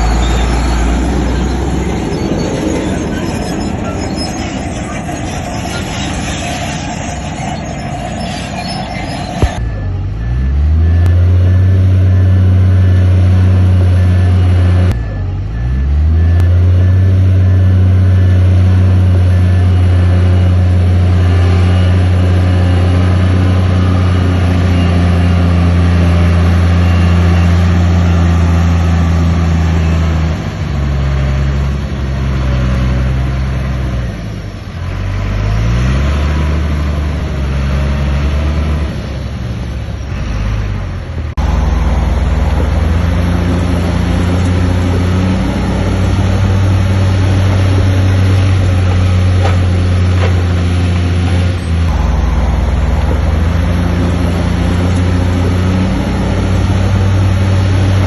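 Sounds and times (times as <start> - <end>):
bulldozer diesel engine: 0.0 - 58.0.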